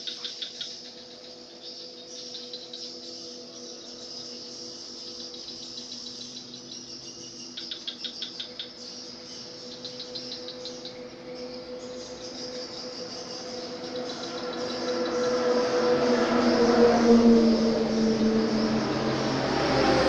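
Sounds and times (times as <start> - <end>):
insects chirping and trilling: 0.0 - 20.0.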